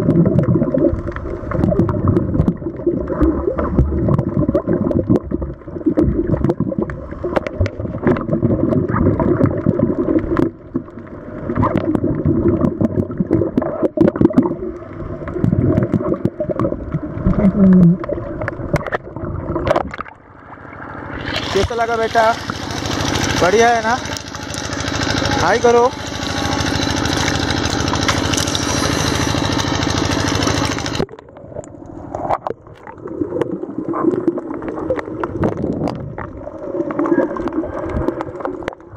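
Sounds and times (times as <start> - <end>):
short low hum: 0.0 - 38.9
underwater air bubbling: 0.0 - 38.9.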